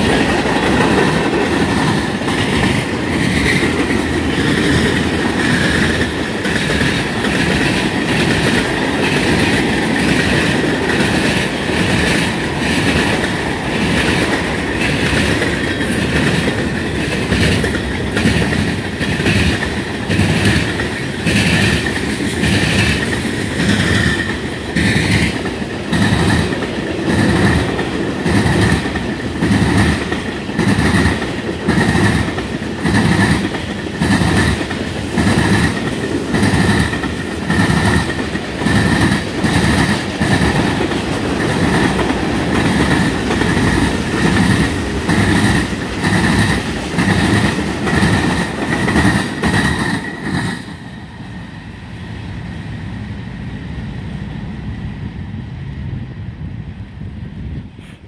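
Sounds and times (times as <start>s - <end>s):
train wheels clacking over joints: 0.0s - 50.8s.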